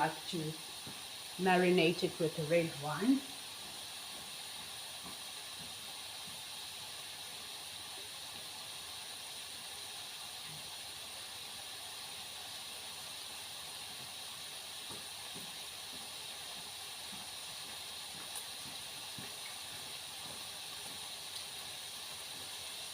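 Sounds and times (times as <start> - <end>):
steady hiss: 0.0 - 22.9.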